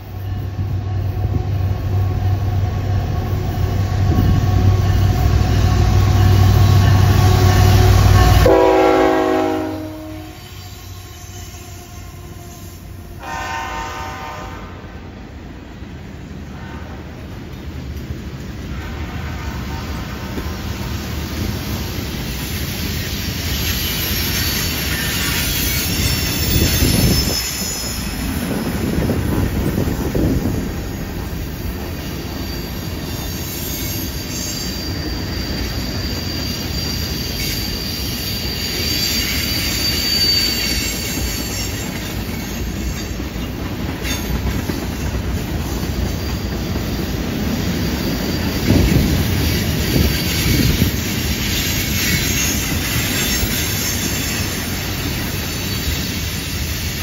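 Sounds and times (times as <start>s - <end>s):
steel wheels rumbling on rail: 0.0s - 57.0s
high wheel squeal: 3.6s - 13.5s, 19.4s - 30.4s, 31.4s - 57.0s.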